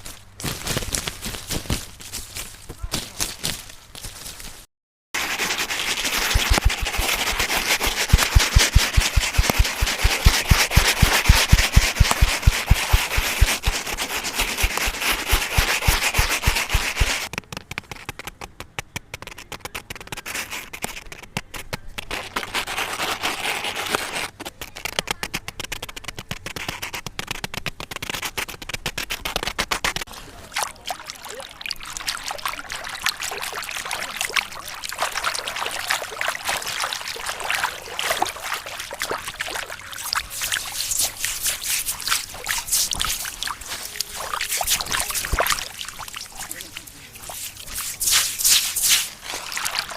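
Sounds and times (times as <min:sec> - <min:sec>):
rubbing crackles: 0:00.0 - 0:30.3, 0:31.5 - 0:49.9.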